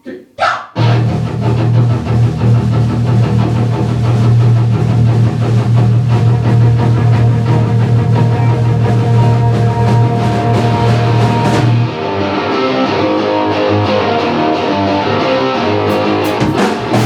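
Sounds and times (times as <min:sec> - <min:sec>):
rock band with electric guitars: 0:00.8 - 0:17.0.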